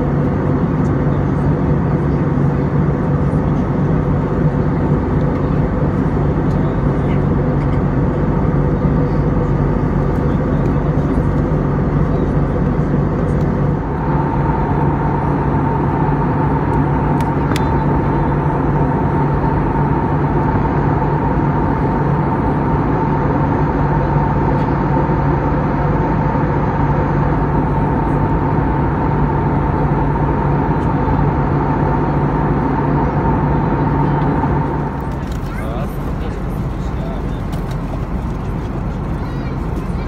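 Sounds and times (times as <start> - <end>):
aircraft cabin engine roar: 0.0 - 40.0
constant low hum: 0.0 - 40.0
high steady whine: 0.0 - 40.0.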